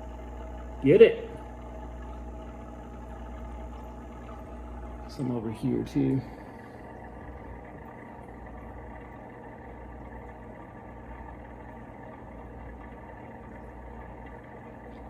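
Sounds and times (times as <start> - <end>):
aquarium equipment humming: 0.0 - 15.0.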